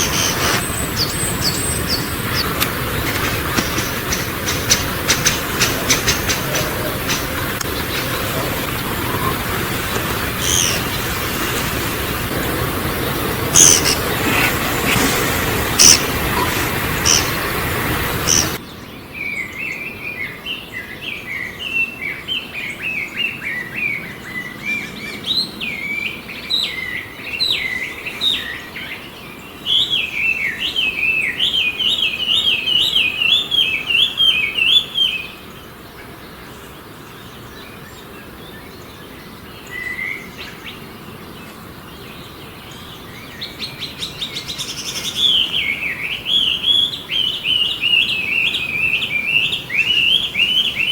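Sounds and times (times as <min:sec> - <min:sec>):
songbird chirping: 0:00.0 - 0:11.1, 0:13.6 - 0:14.1, 0:15.6 - 0:17.6, 0:18.2 - 0:50.9.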